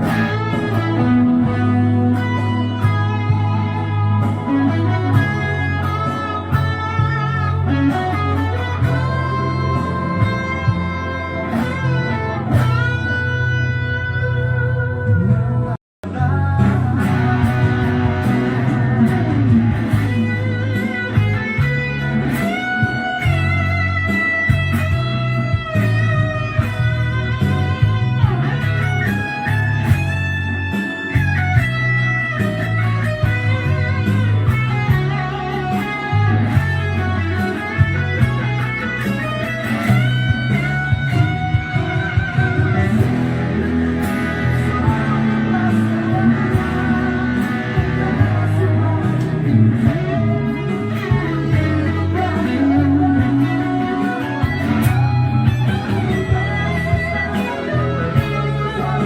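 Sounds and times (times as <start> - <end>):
electric guitar solo: 0.0 - 59.0
repeating bass line: 0.0 - 59.0.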